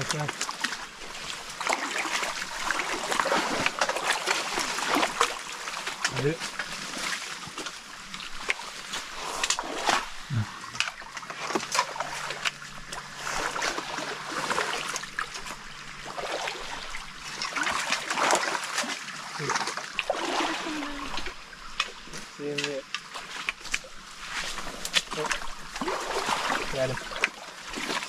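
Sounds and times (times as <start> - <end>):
flowing stream hiss: 0.0 - 28.0
water splashing from wading: 0.0 - 28.0.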